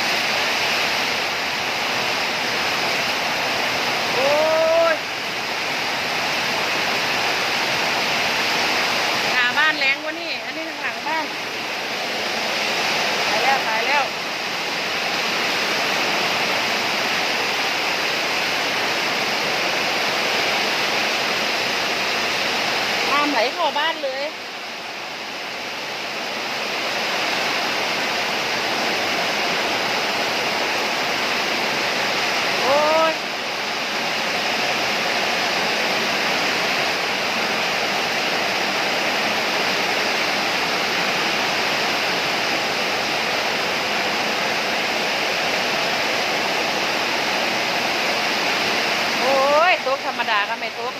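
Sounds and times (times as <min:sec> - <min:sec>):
heavy rain: 0:00.0 - 0:50.9.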